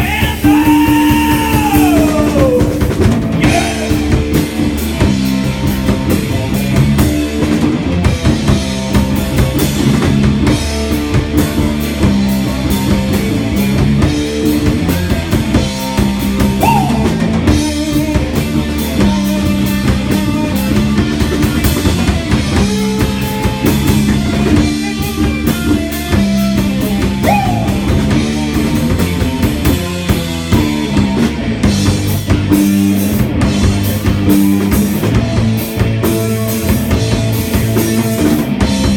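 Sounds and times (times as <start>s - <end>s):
drum kit beating: 0.0s - 38.9s
rock band playing live: 0.0s - 38.9s.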